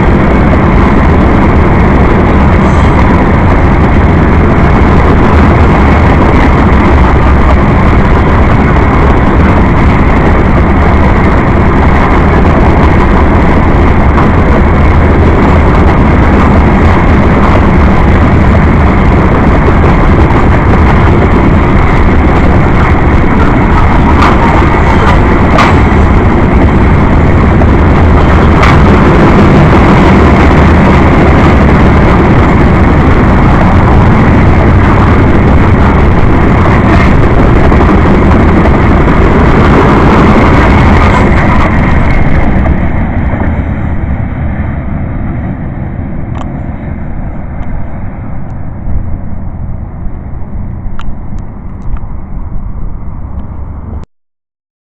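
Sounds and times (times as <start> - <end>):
train cars clanking: 0.0 - 44.9
train wheels rumbling on rails: 0.0 - 54.0.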